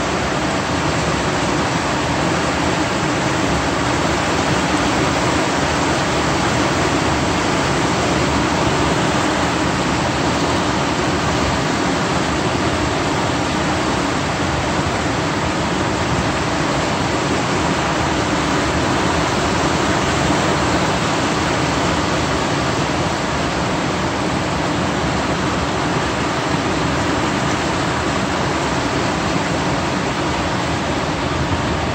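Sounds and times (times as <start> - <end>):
water rushing down spillway: 0.0 - 31.9.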